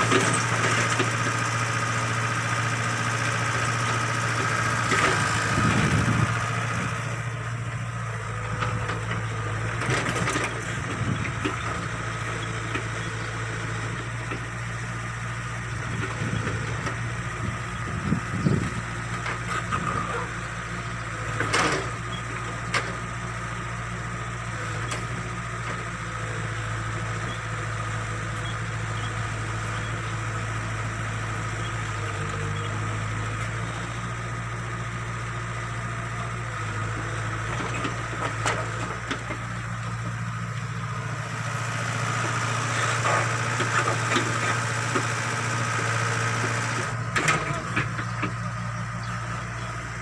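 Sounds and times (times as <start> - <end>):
backhoe diesel engine running: 0.0 - 50.0.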